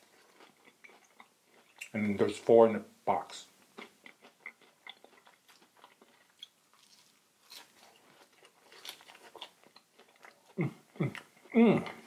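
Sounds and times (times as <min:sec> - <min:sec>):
chewing with faint crunches: 0:00.0 - 0:02.1, 0:03.6 - 0:12.0.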